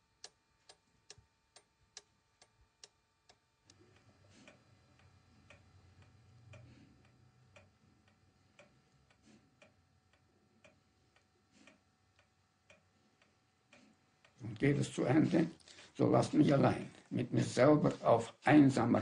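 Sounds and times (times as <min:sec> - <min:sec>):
clock ticking: 0:00.0 - 0:15.6.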